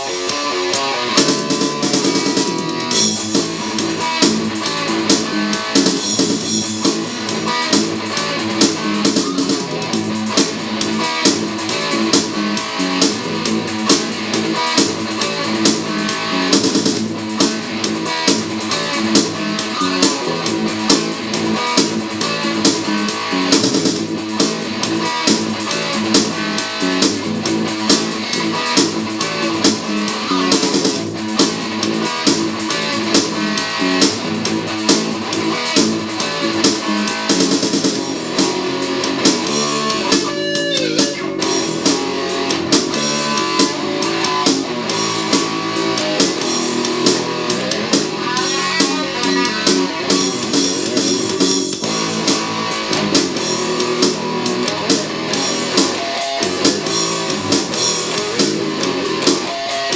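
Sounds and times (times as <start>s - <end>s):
bass guitar: 0.0s - 59.9s
distorted electric guitar riffing: 0.0s - 59.9s
drum kit: 0.0s - 59.9s.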